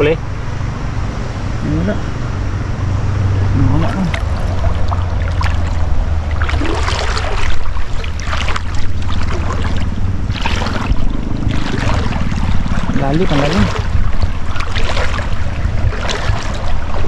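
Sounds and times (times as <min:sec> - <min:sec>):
wind rumbling on microphone: 0:00.0 - 0:17.0
river water lapping and splashing: 0:00.2 - 0:17.0.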